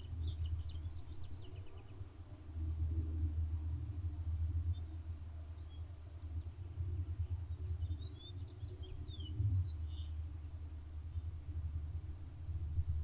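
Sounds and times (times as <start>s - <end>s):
small birds chirping: 0.0s - 2.4s, 4.0s - 12.2s.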